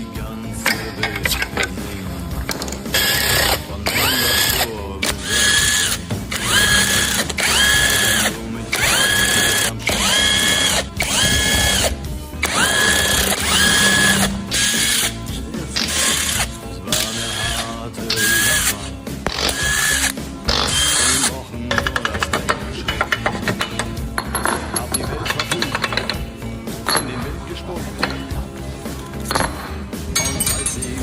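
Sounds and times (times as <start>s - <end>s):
power driver whining: 0.0s - 30.0s.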